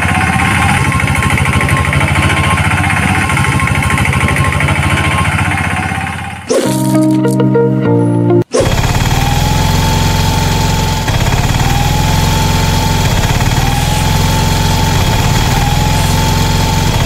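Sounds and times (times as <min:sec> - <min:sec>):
engine idling rumble: 0:00.0 - 0:06.5, 0:08.7 - 0:17.0.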